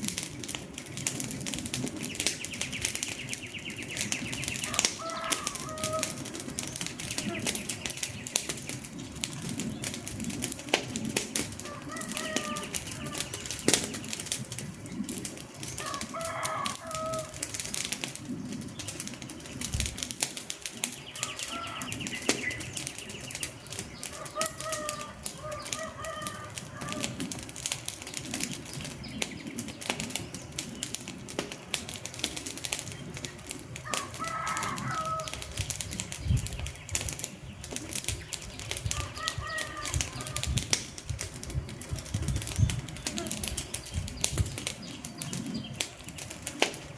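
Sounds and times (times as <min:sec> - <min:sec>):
wood fire crackling: 0:00.0 - 0:46.9
bird calls: 0:01.8 - 0:10.3, 0:10.9 - 0:17.4, 0:18.0 - 0:27.4, 0:28.0 - 0:46.9.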